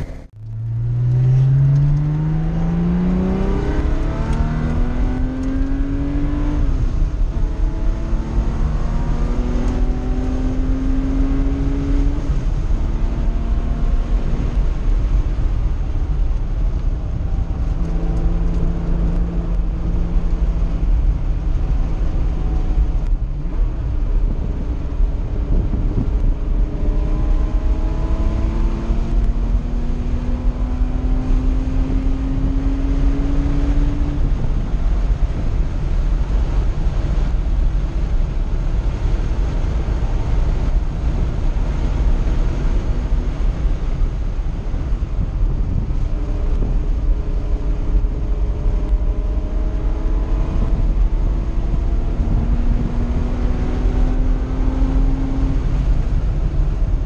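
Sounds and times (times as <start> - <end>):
car engine revving under acceleration: 0.0 - 57.0
wind and road noise: 0.0 - 57.0.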